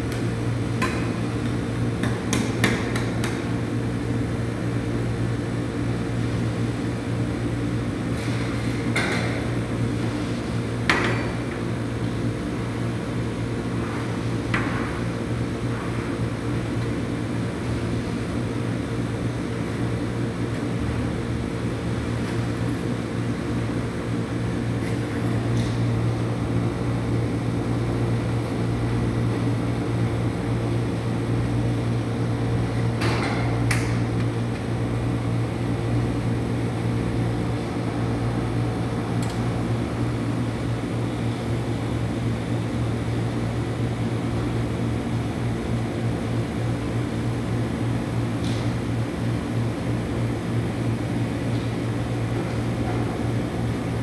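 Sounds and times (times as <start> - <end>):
refrigeration machinery humming: 0.0 - 54.0.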